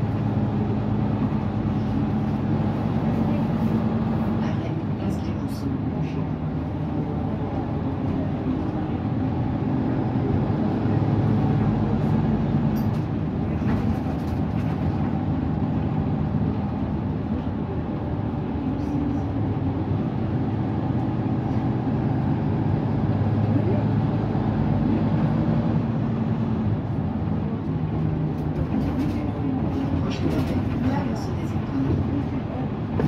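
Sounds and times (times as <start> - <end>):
bus diesel engine droning: 0.0 - 33.0.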